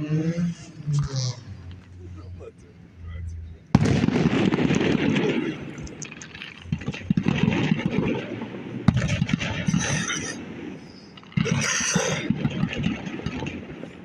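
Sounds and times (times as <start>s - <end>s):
fireworks banging and crackling: 0.0s - 14.0s.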